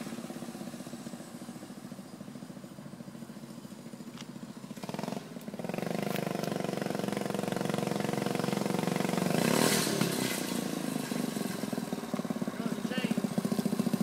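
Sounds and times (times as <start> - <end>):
mini bike engine running: 0.0 - 14.0.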